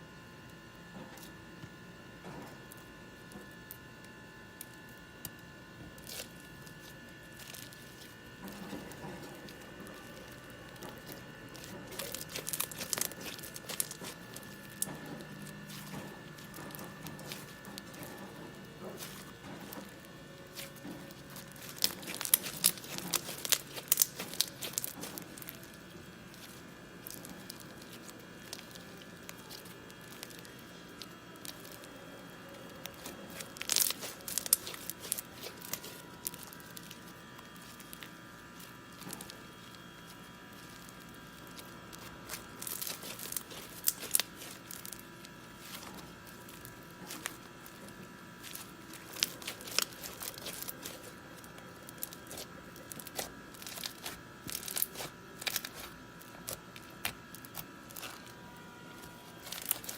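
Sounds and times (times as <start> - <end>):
faint steady hum: 0.0 - 59.9
crinkling and rustling: 5.9 - 59.9.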